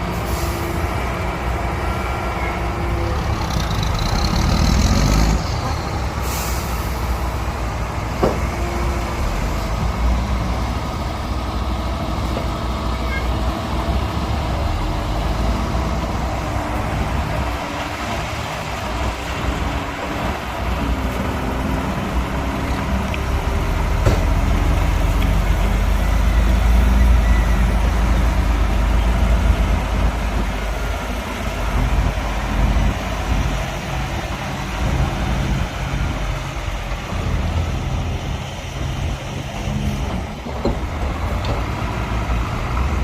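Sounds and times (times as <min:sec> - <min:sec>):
heavy diesel engines rumbling: 0:00.0 - 0:43.0.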